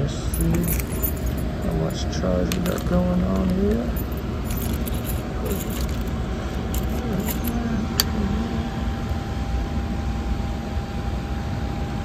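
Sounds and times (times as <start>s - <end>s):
faint whine: 0.0s - 12.0s.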